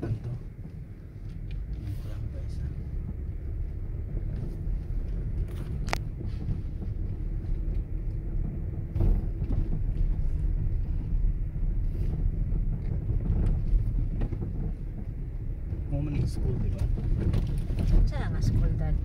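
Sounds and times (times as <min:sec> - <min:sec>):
low rumble of car driving: 0:00.0 - 0:19.0.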